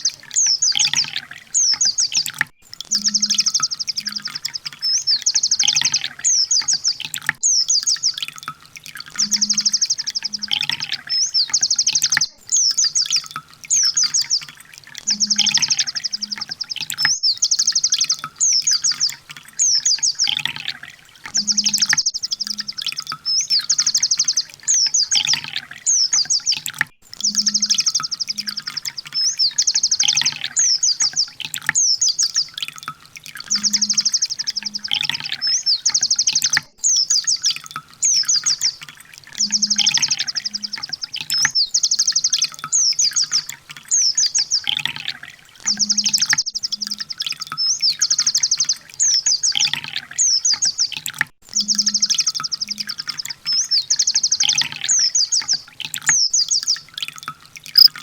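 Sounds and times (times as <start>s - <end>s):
recorded bird song: 0.0s - 58.0s.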